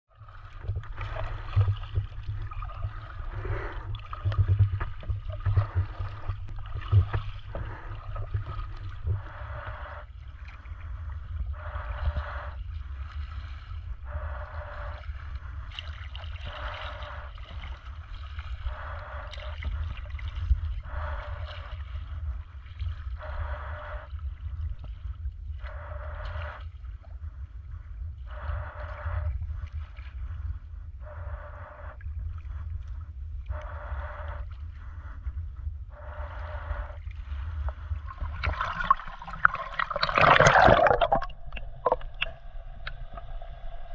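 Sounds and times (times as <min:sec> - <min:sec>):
low rumble: 0:00.1 - 0:43.9.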